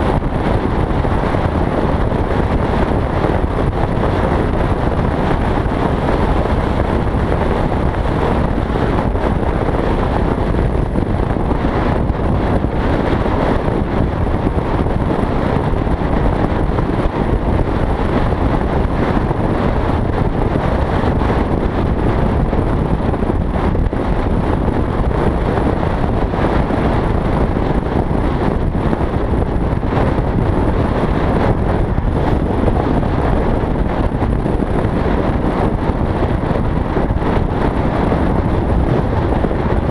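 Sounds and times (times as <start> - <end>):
road noise: 0.0 - 39.9
wind rushing: 0.0 - 39.9.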